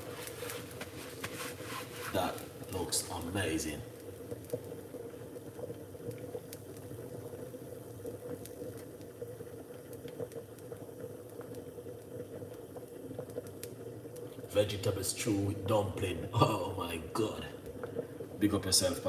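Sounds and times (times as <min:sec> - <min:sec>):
soup bubbling in a pot: 0:00.0 - 0:19.0.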